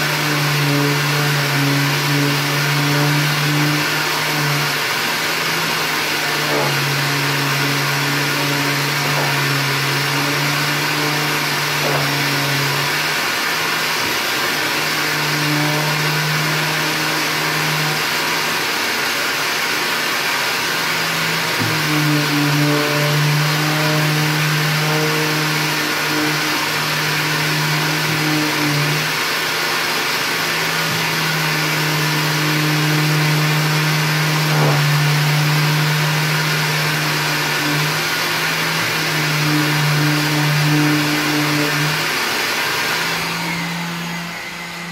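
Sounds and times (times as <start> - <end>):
electric sander running: 0.0 - 44.9.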